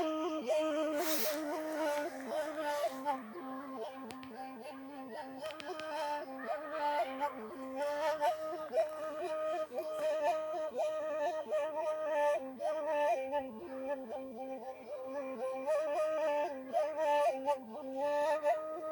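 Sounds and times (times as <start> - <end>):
reed flute melody: 0.0 - 18.9.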